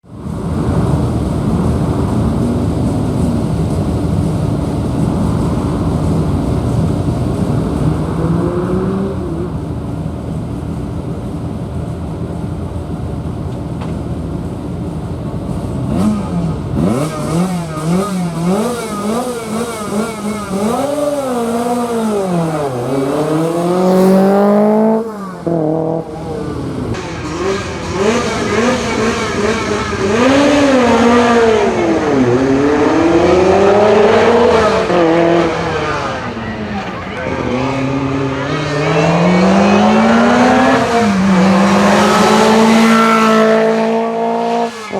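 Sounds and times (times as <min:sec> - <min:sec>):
car engine revving: 0:00.4 - 0:10.2, 0:15.6 - 0:44.9.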